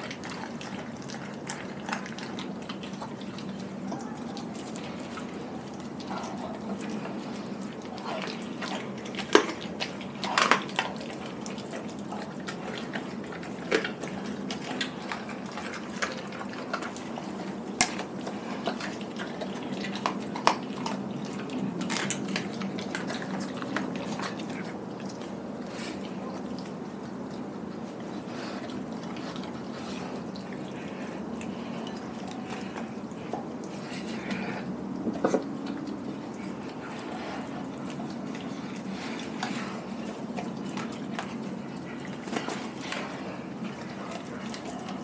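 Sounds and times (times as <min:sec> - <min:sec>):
dog chewing raw meat: 0:00.0 - 0:45.0.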